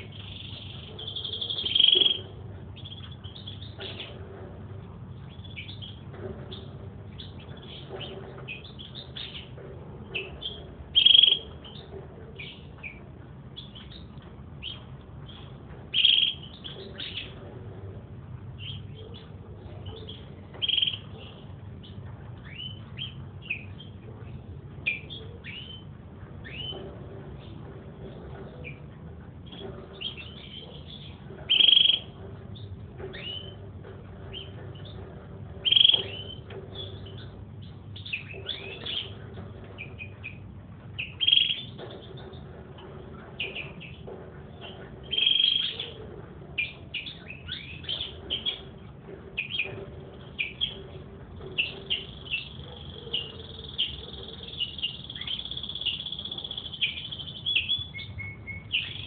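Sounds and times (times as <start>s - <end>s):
canary chirping: 0.0s - 4.3s, 5.1s - 13.0s, 13.6s - 17.4s, 18.6s - 27.6s, 29.4s - 33.6s, 34.2s - 42.5s, 43.1s - 46.0s, 46.6s - 59.0s
canary trills: 0.0s - 4.4s, 5.1s - 17.4s, 18.6s - 59.0s.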